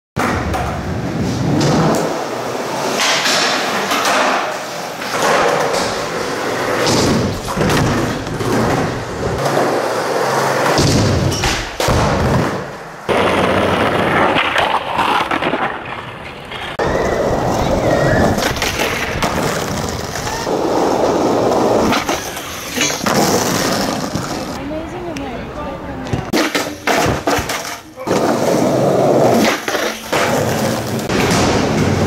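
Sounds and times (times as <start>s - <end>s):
skateboard popping and landing: 0.2s - 24.6s, 26.1s - 32.0s
skateboard wheels rolling on concrete: 0.2s - 32.0s.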